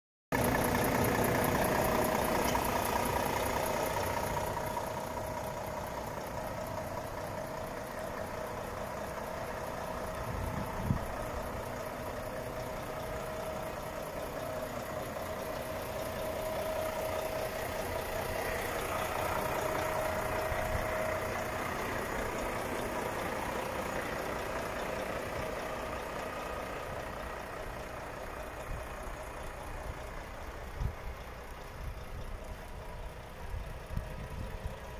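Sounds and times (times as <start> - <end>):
diesel truck idling: 0.3 - 34.9.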